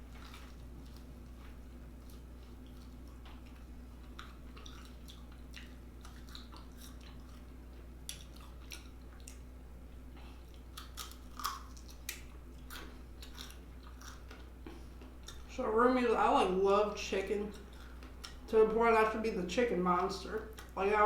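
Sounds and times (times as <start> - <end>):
person chewing food: 0.0 - 15.5, 17.5 - 18.5, 20.4 - 20.8
steady low hum: 0.0 - 21.0.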